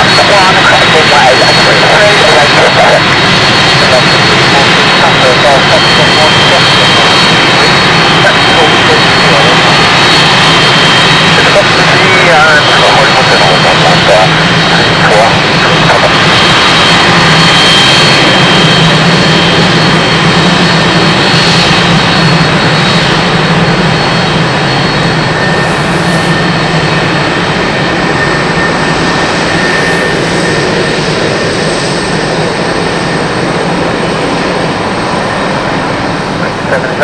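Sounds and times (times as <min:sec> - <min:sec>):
high jet whine: 0:00.0 - 0:37.0
jet engines rumbling: 0:00.0 - 0:37.0.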